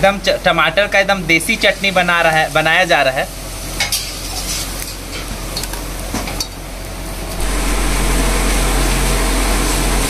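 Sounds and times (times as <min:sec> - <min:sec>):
wood fire hissing: 0:01.0 - 0:10.0.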